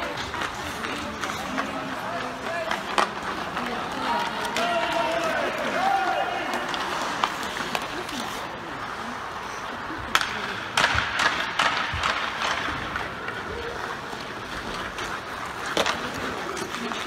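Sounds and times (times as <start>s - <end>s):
puck hitting boards: 0.0s - 8.2s, 10.1s - 13.5s, 14.6s - 17.0s
hockey sticks clacking on puck: 0.0s - 17.0s
skates scraping on ice: 0.0s - 17.0s.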